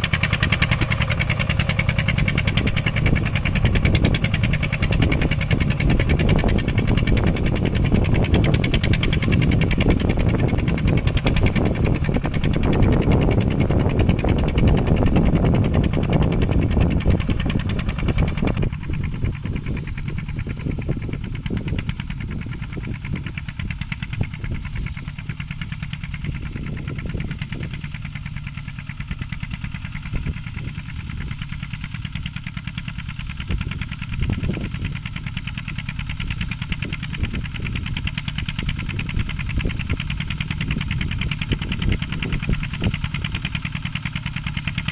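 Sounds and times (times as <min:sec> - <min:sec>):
tractor engine running under load: 0:00.0 - 0:44.9.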